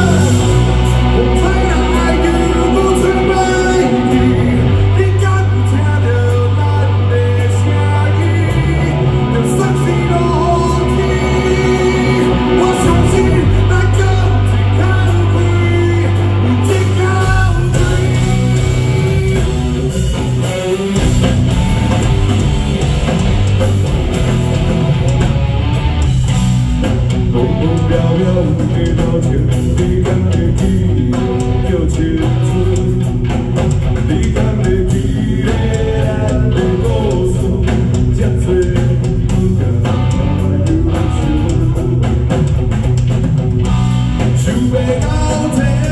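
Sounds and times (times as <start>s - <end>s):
person singing: 0.0s - 20.0s, 27.3s - 42.4s, 44.2s - 45.9s
rock band playing: 0.0s - 45.9s.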